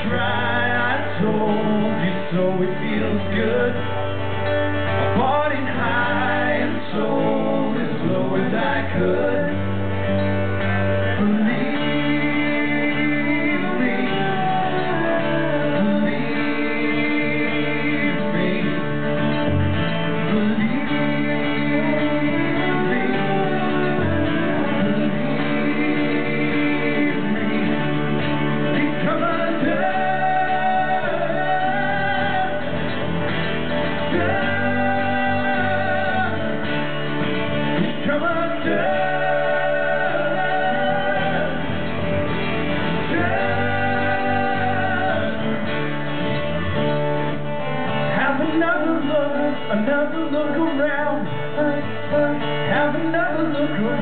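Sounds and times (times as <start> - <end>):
men singing: 0.0 - 46.3, 48.1 - 54.0
strummed acoustic guitars: 0.0 - 54.0.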